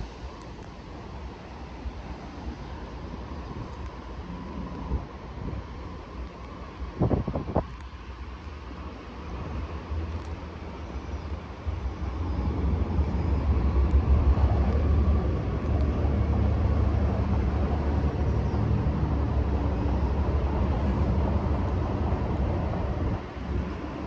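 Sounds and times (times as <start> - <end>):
diesel locomotive rumble: 0.0 - 24.0.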